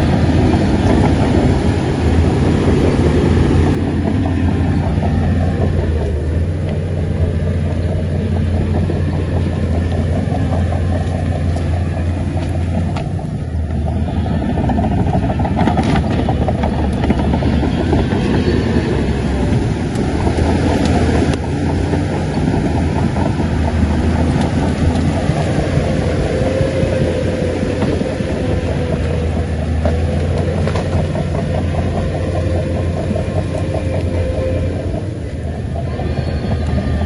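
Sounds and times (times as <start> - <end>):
bulldozer diesel engine running: 0.0 - 37.0
steel tracks clattering: 0.0 - 37.0.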